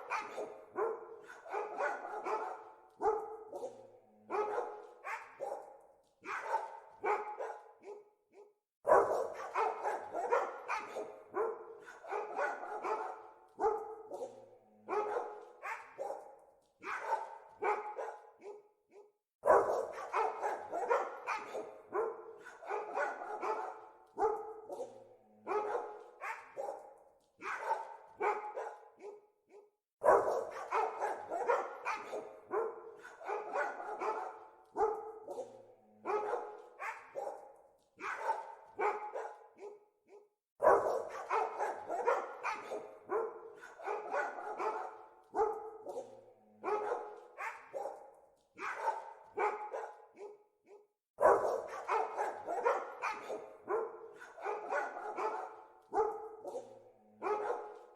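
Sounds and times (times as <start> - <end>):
dogs barking: 0.0 - 57.9.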